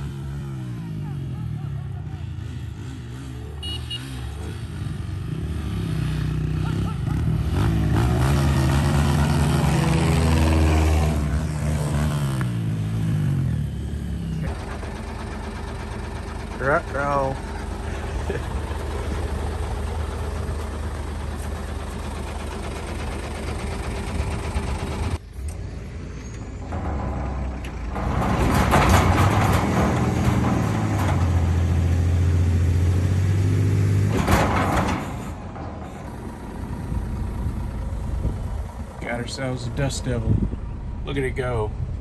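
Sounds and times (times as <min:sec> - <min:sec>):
truck engine running: 0:04.6 - 0:42.0.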